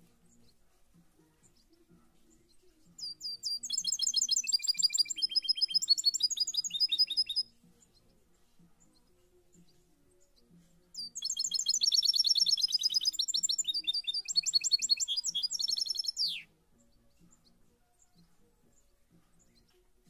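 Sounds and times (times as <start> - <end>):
songbird twittering song: 0.0 - 20.0.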